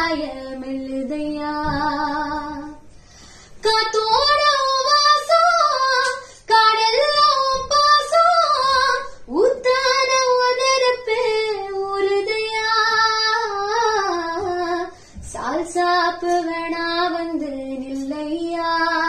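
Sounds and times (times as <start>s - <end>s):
woman singing unaccompanied: 0.0s - 2.9s, 3.6s - 19.0s.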